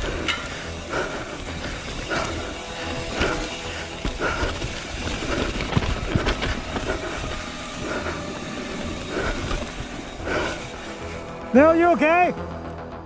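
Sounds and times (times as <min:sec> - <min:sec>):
chain and frame rattling: 0:00.0 - 0:11.4
bike tyres over rocks: 0:00.0 - 0:11.8.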